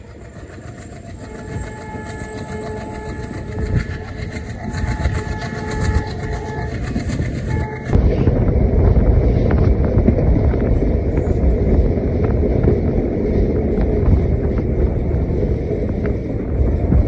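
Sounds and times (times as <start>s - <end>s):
diesel train rumble: 0.0s - 17.0s.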